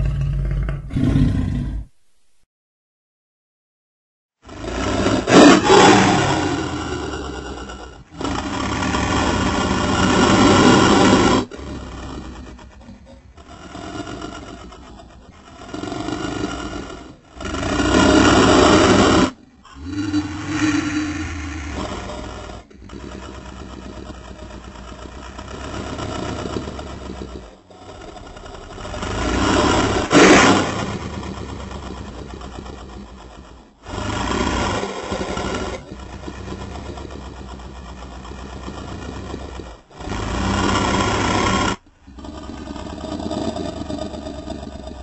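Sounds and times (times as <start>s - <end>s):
monster growling calls: 0.0s - 1.9s, 4.5s - 45.0s.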